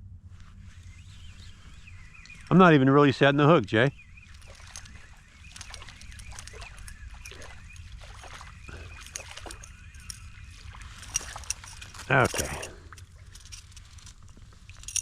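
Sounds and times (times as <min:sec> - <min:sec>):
steady low rumble: 0:00.0 - 0:15.0
water lapping: 0:00.8 - 0:15.0.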